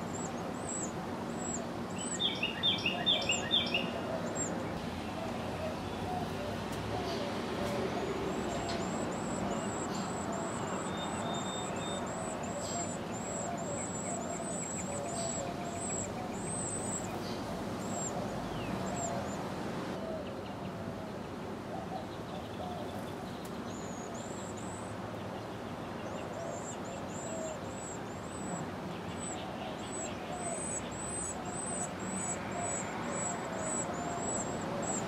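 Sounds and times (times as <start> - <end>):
nestlings begging calls: 0.0 - 20.3, 21.9 - 35.0.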